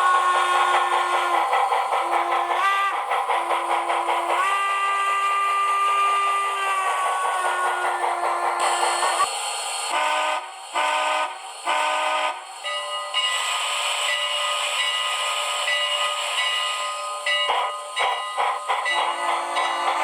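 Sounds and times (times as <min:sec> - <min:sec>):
steam hiss: 0:00.0 - 0:20.0
steam locomotive whistle: 0:02.0 - 0:09.3, 0:09.9 - 0:20.0.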